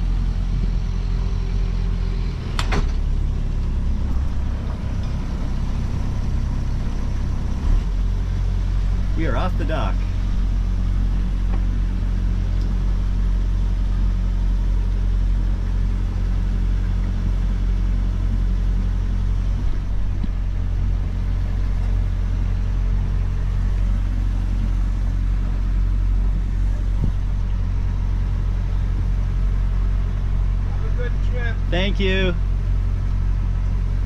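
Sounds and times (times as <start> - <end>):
boat engine droning: 0.0 - 34.0
water wash: 0.0 - 34.0.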